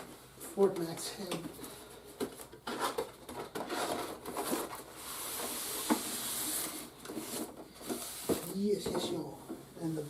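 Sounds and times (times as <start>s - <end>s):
cardboard and plastic rustling: 0.0s - 9.6s.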